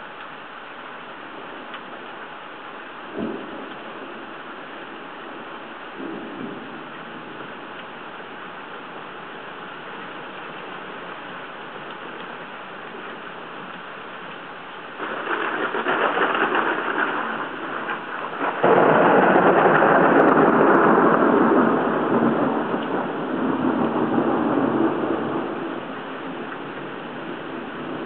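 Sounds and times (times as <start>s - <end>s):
wind and rain buffeting microphone: 0.0s - 28.0s.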